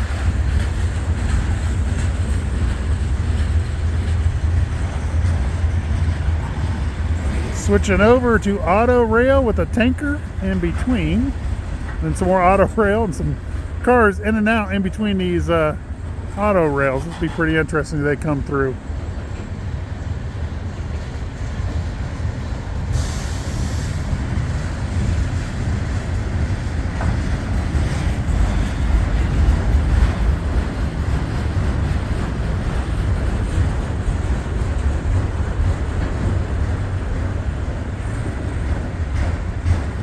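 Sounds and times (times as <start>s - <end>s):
freight cars rolling on rails: 0.0s - 40.0s.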